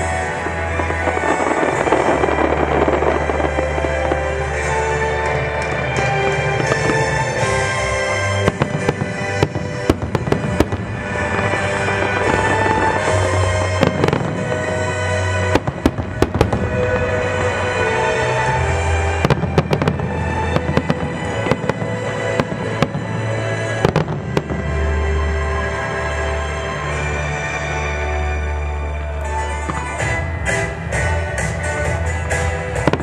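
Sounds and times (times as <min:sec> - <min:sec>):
fireworks bangs: 0:00.0 - 0:27.1, 0:29.1 - 0:33.0
music playing: 0:00.0 - 0:33.0.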